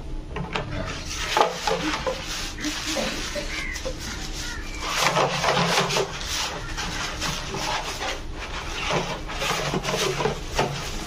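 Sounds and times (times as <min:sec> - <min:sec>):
plastic sheet rustling: 0:01.0 - 0:11.0.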